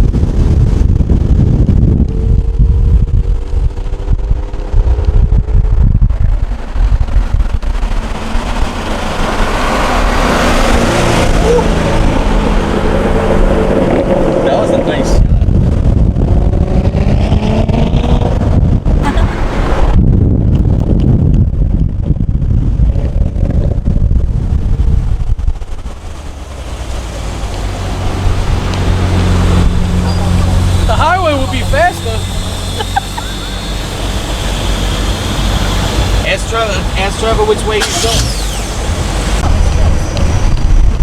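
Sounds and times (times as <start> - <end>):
car engine running: 0.0 - 22.8, 23.8 - 41.0
road and wind noise: 0.0 - 41.0.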